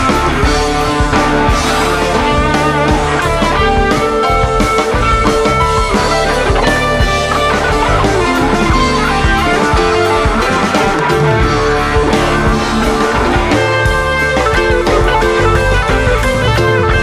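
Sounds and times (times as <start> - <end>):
guitar-led rock music: 0.0 - 17.0.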